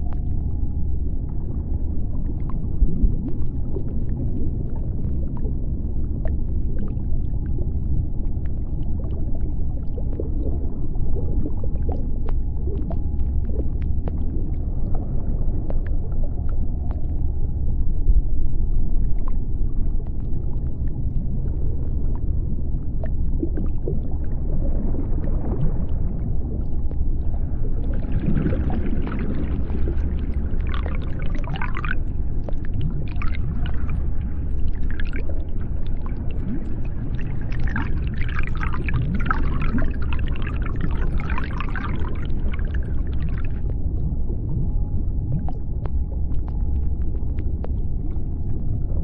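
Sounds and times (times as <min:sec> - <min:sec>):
deep underwater rumble: 0:00.0 - 0:49.0.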